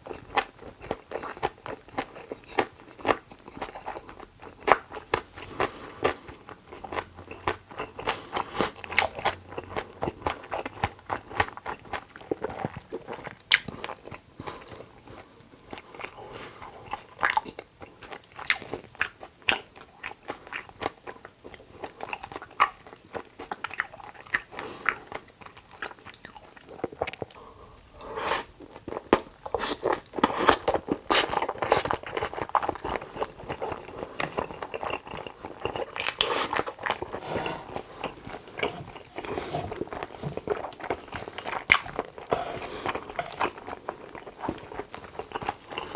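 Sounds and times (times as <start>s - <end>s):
chewing and crunching food: 0.0s - 45.9s.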